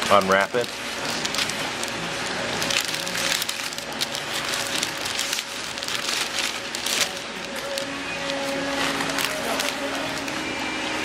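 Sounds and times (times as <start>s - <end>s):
sandwich wrapper crinkling: 0.0s - 11.0s.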